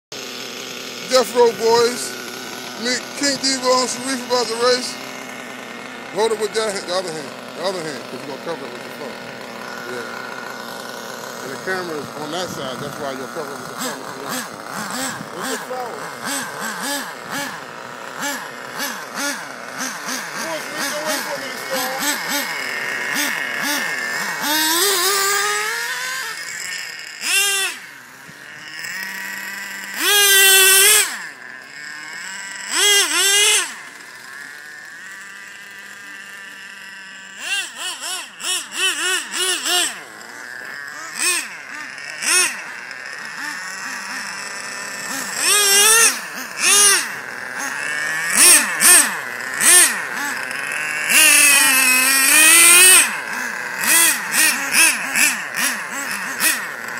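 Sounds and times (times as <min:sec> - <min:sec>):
rc car engines revving: 0:00.1 - 0:56.9.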